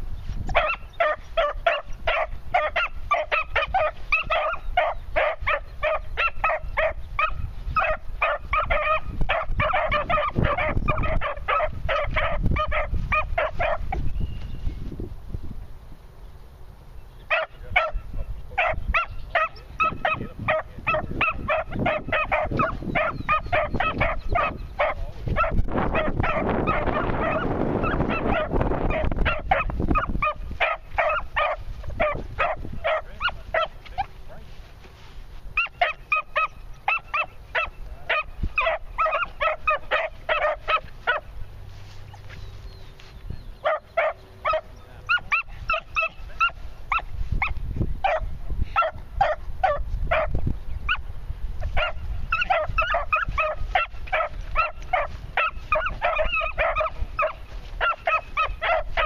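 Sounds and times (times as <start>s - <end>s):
puppies yipping: 0.5s - 14.5s, 18.6s - 34.2s, 35.6s - 48.2s, 51.7s - 59.0s.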